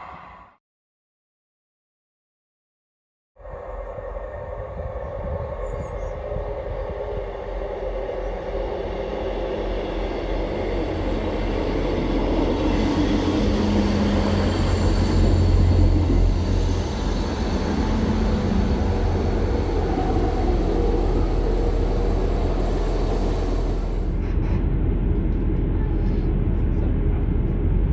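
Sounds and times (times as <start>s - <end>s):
train running: 3.5s - 27.9s
steady hums: 3.9s - 27.9s.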